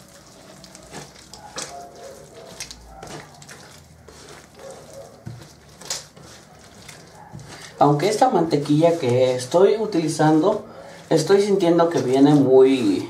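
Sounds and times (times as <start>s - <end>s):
hand squishing wet paste: 0.0s - 13.0s.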